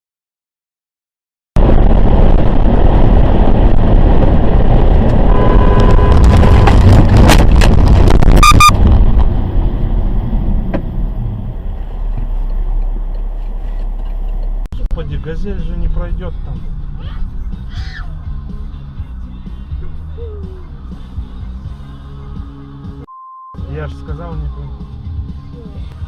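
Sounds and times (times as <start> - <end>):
vehicle road noise rumbling: 1.6 - 26.0.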